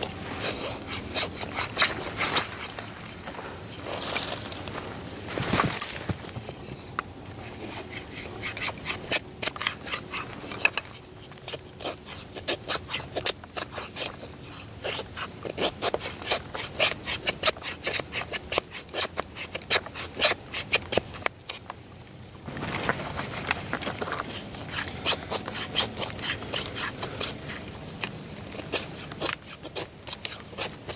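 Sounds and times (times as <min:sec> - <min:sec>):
knife shaving wood: 0:00.0 - 0:04.7, 0:05.3 - 0:21.8, 0:22.5 - 0:30.9.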